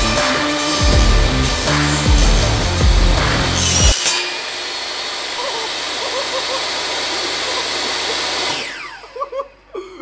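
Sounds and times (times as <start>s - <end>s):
table saw whining: 0.0s - 9.5s.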